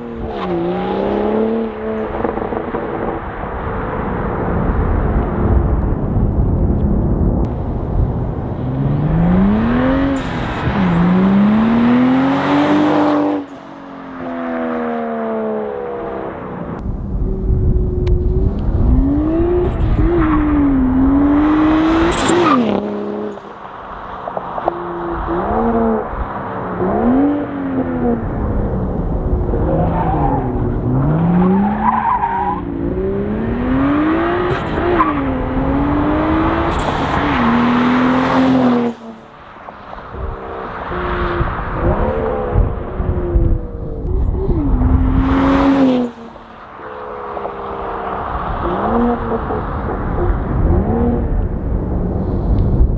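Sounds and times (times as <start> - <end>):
car engine accelerating hard: 0.0 - 52.9.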